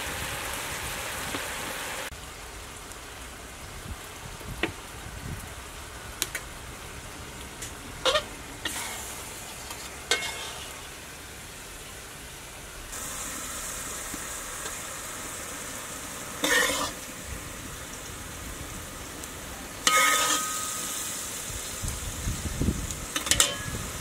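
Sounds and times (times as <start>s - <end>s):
food sizzling in a wok: 0.0s - 24.0s.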